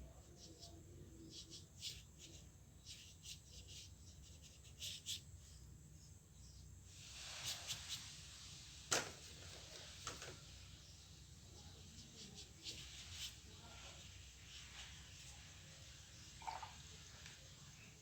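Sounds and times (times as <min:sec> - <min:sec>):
paintbrush strokes on paper: 0:00.0 - 0:05.8, 0:06.8 - 0:17.9.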